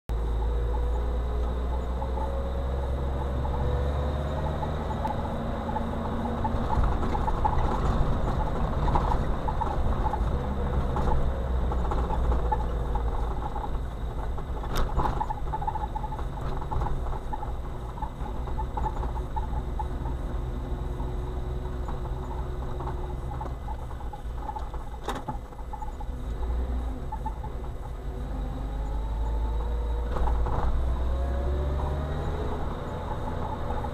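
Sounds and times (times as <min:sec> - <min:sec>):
car engine and tyre rumble: 0:00.1 - 0:33.9
small ticks and rattles: 0:00.2 - 0:33.9.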